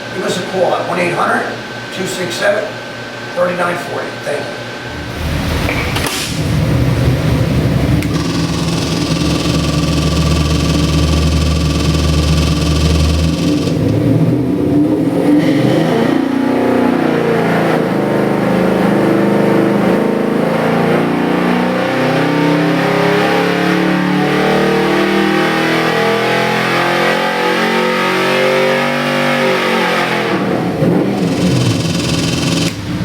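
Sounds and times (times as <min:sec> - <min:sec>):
engine revving on test stand: 0:04.8 - 0:33.0.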